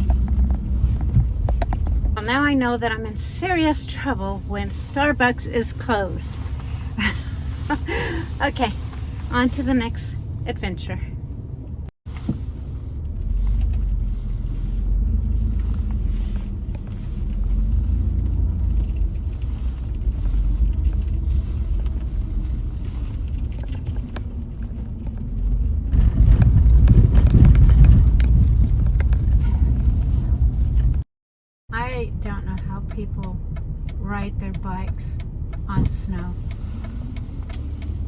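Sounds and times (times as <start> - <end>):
car engine and tyre rumble: 0.0 - 31.1, 31.7 - 38.0.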